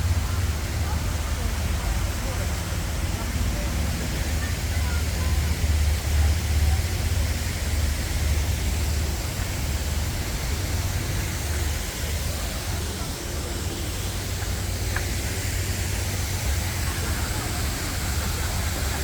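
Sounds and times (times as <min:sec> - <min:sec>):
splashing fountain water: 0:00.0 - 0:19.0.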